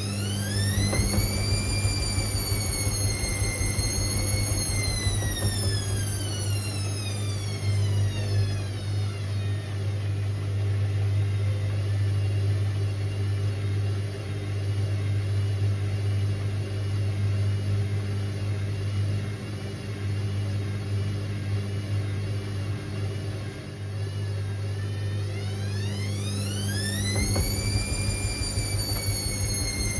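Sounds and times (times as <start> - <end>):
washing machine motor whining: 0.0 - 29.9.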